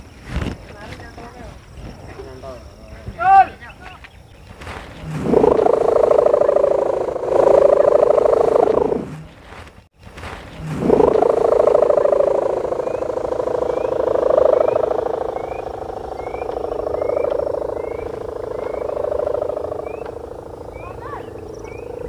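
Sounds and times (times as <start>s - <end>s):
kite hummer buzzing in wind: 0.0s - 22.0s.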